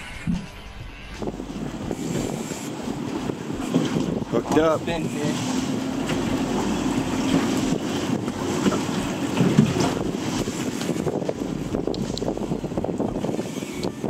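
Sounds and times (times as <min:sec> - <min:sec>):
boat and water noise: 0:00.0 - 0:14.0
wind buffeting microphone: 0:00.2 - 0:14.0.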